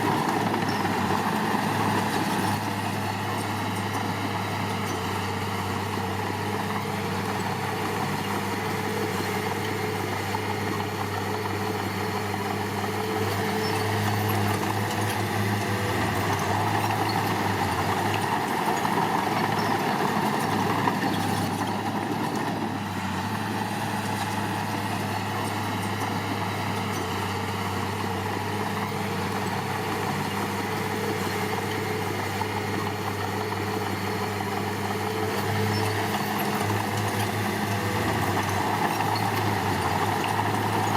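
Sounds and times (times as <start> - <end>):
diesel engine of heavy machinery: 0.0 - 40.9.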